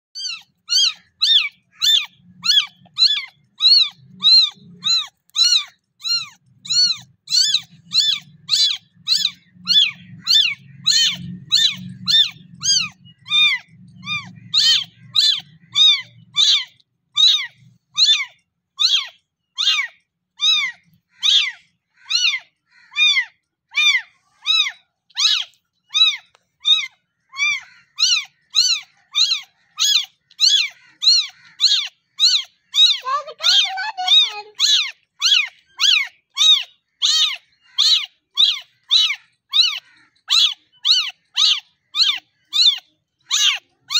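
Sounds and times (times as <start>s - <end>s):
kitten meowing: 0.2s - 43.9s.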